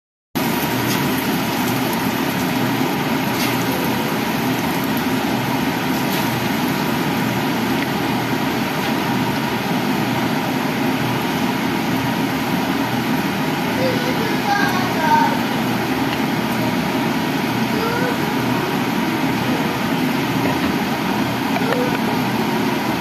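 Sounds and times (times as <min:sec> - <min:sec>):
batter sizzling in oil: 0:00.4 - 0:21.5.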